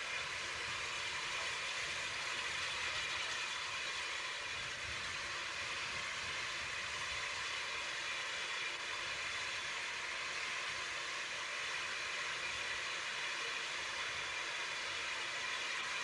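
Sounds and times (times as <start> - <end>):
train rumble and hiss: 0.0 - 16.0.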